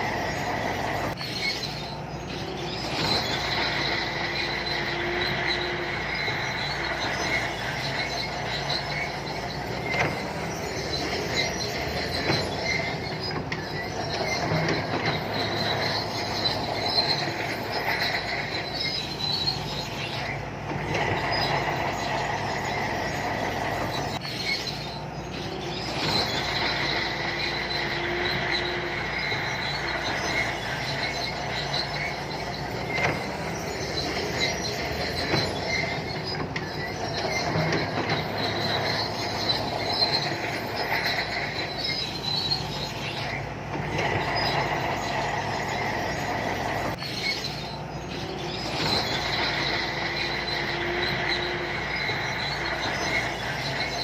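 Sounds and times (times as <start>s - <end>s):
diesel engine running: 0.0s - 54.0s
steel tracks squealing and clanking: 0.0s - 54.0s.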